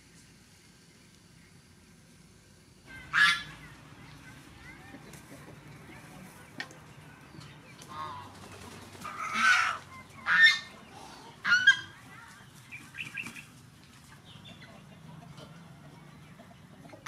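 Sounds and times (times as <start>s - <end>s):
chickens clucking: 2.9s - 17.0s
chickens squawking: 2.9s - 17.0s.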